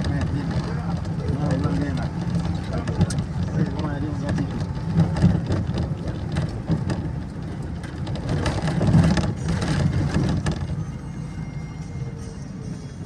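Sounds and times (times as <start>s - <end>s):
bodywork and windows rattling: 0.0s - 10.8s
bus engine and road rumble: 0.0s - 13.0s.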